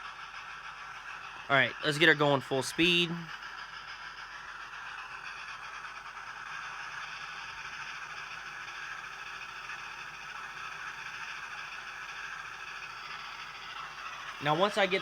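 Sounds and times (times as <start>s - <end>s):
fast steam chuffing: 0.0s - 15.0s
motor and rollers whirring: 0.8s - 15.0s.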